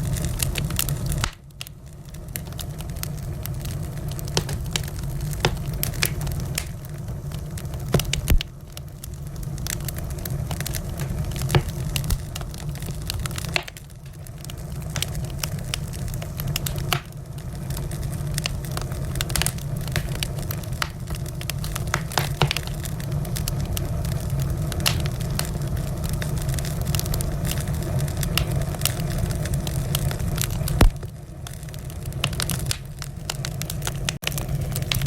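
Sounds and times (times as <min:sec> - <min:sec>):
fireplace fire burning: 0:00.0 - 0:35.0.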